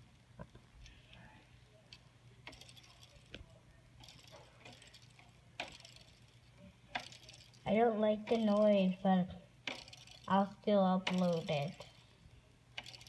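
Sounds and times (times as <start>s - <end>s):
low steady fan hum: 0.0s - 13.0s
small fan ticking and clicking: 0.0s - 13.0s.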